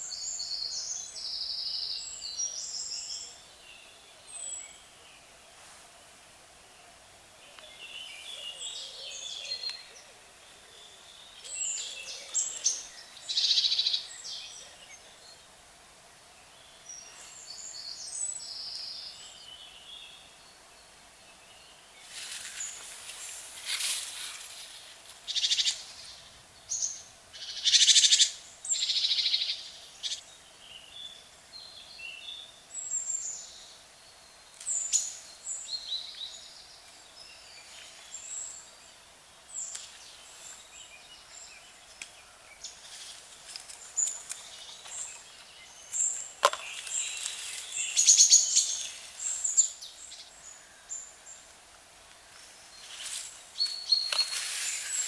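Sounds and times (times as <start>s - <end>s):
birds singing: 6.8s - 15.6s, 16.3s - 23.0s, 25.2s - 51.5s, 52.2s - 55.0s.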